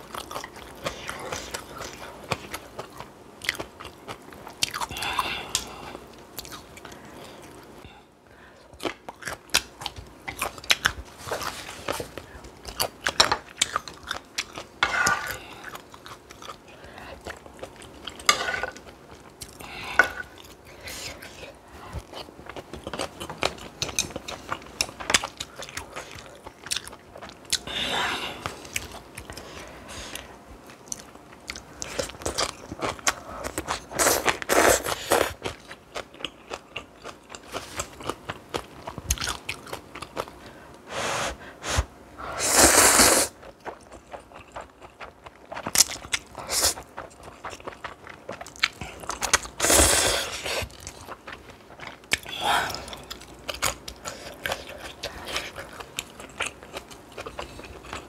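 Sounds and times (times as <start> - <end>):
crunching and wet chewing: 0.0 - 7.8, 8.6 - 27.7, 28.4 - 40.6, 43.3 - 58.0.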